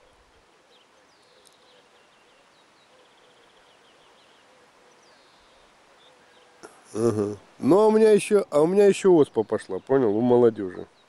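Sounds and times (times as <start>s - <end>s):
distant small birds chirping: 0.0s - 11.0s.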